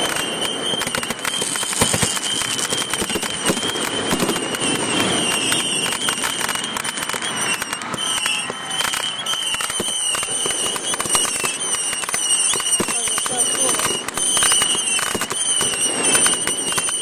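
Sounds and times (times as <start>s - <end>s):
fireworks crackling and popping: 0.0s - 17.0s
high whine: 0.0s - 17.0s.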